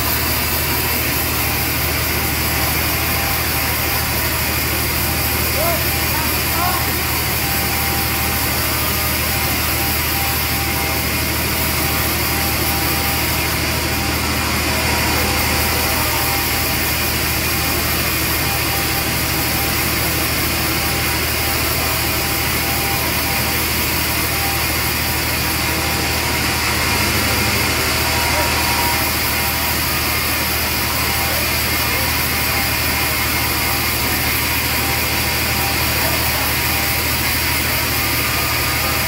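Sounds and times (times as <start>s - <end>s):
band sawmill cutting log: 0.0s - 39.0s.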